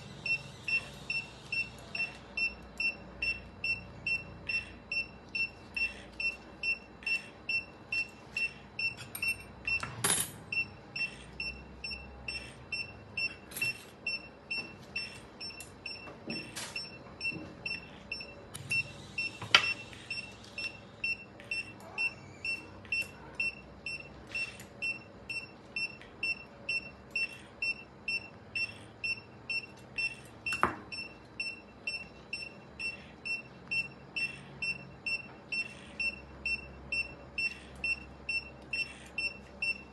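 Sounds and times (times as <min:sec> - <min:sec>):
patient monitor beeping: 0:00.1 - 0:39.9.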